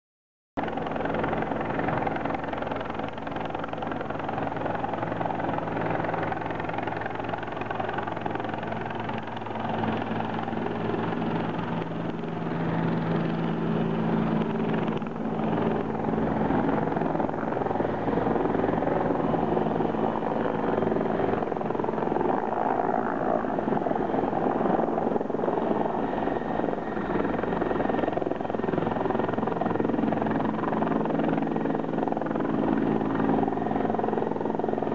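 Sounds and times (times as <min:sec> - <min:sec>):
helicopter rotor and engines: 0:00.6 - 0:34.9.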